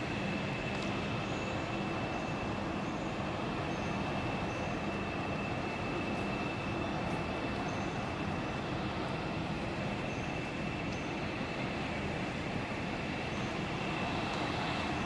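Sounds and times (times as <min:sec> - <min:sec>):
railway station hall rumble: 0:00.0 - 0:15.0.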